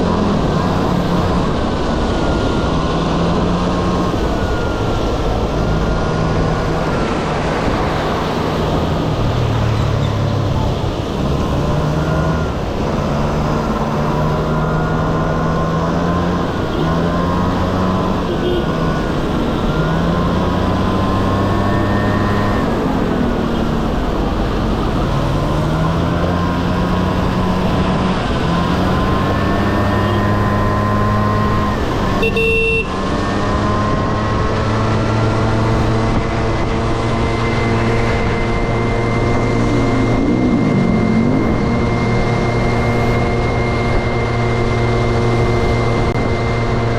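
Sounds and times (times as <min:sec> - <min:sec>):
scooter engine revving: 0:00.0 - 0:46.9.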